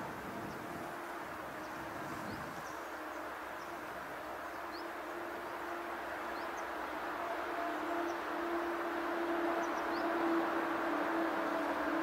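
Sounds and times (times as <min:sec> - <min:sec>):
steady droning tone: 0:00.8 - 0:12.0
birds chirping: 0:01.6 - 0:12.0.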